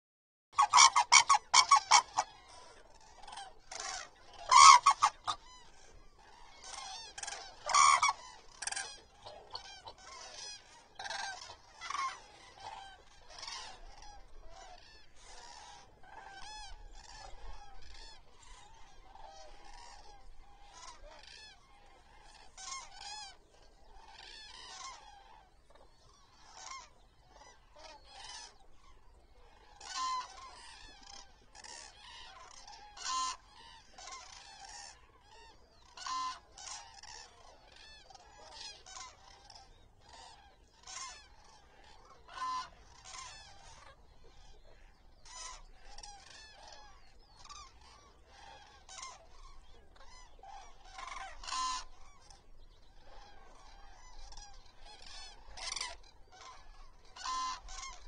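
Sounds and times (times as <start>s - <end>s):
cranes trumpeting calls: 0.6s - 58.0s
faint overlapping crane calls: 0.6s - 58.0s.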